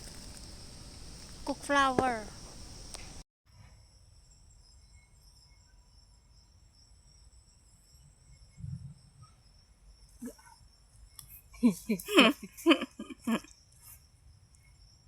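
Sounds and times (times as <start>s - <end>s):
insects chirring: 0.0s - 3.2s, 3.8s - 15.0s.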